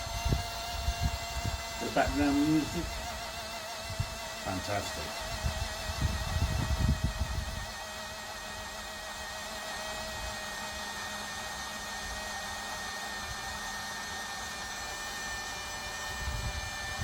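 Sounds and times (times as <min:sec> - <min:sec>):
blender motor whining: 0:00.0 - 0:17.0.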